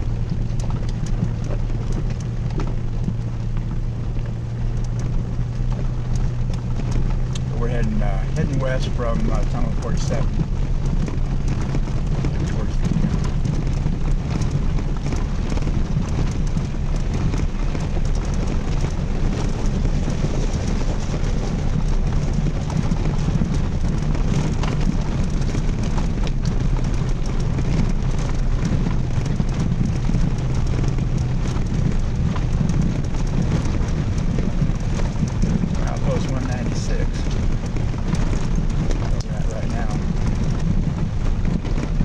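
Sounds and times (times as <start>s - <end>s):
tyres rolling noise: 0.0s - 42.0s
vehicle engine running: 0.0s - 42.0s
wind noise: 0.0s - 42.0s.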